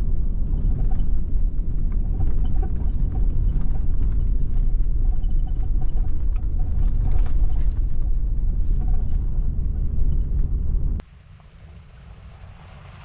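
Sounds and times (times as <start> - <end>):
truck driving rumble: 0.0 - 13.0.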